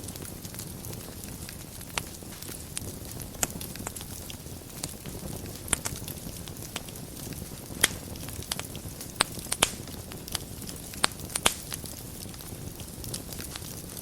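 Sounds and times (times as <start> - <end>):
fire crackles and pops: 0.0 - 14.0
fire rumbling: 0.0 - 14.0.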